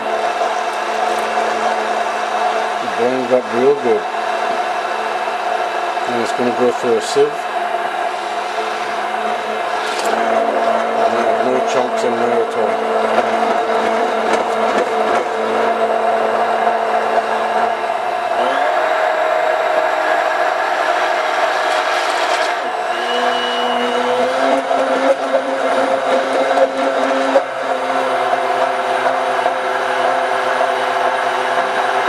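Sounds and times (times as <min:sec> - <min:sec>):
immersion blender running: 0:00.0 - 0:32.0.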